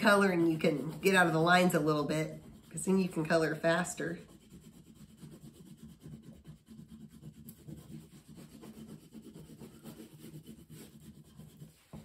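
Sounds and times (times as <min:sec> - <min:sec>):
crayon rubbing on paper: 0:00.0 - 0:12.0.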